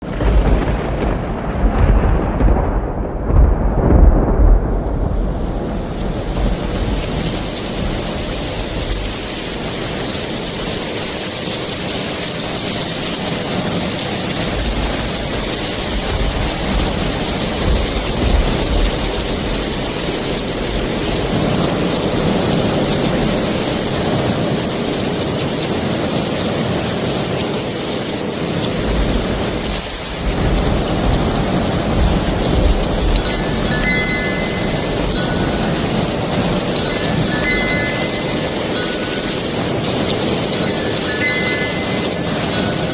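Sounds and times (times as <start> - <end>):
low thunder rumbles: 0.0 - 27.2, 27.9 - 42.9
heavy rain falling: 0.0 - 42.9.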